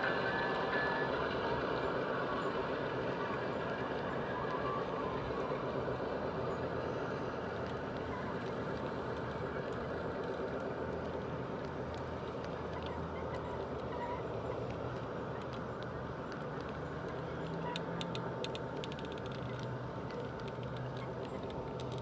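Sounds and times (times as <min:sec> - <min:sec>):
model train wheels rumbling: 0:00.0 - 0:22.0.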